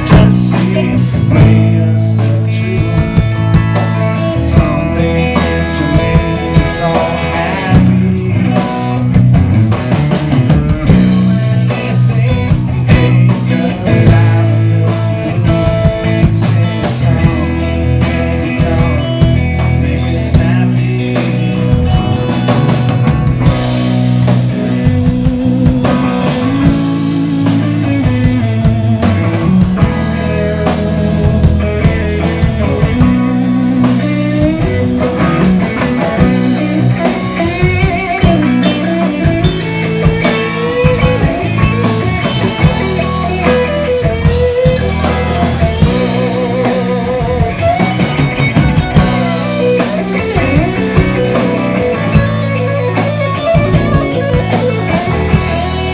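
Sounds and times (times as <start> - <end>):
rock band playing live: 0.0 - 55.9
steady drum beat: 0.0 - 55.9
wavering guitar melody: 0.0 - 55.9.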